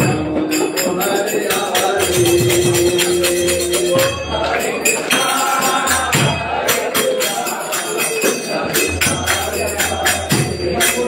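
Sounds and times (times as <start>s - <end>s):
hand cymbals struck: 0.0s - 11.0s
people singing: 0.0s - 11.0s.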